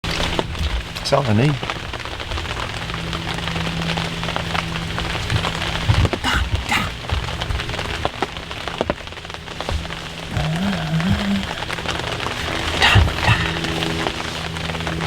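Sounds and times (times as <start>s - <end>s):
crackling patter: 0.0s - 15.0s.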